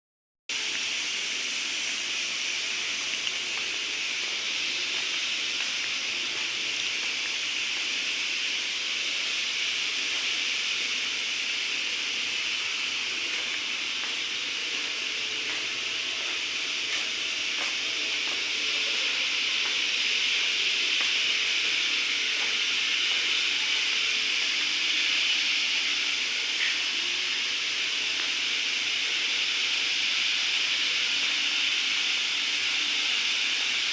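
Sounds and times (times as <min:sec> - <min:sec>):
cnc machine hissing: 0:00.5 - 0:33.9.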